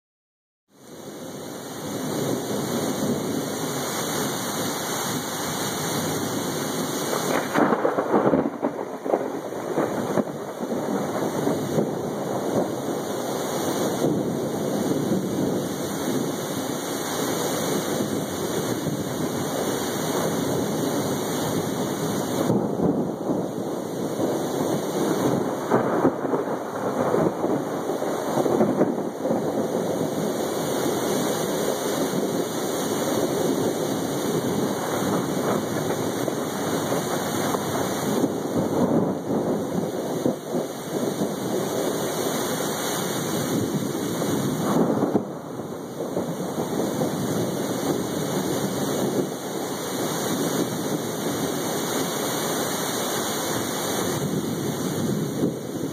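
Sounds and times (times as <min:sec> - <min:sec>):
heavy rain: 0:00.7 - 0:55.9
thunder rumbling: 0:00.9 - 0:55.9.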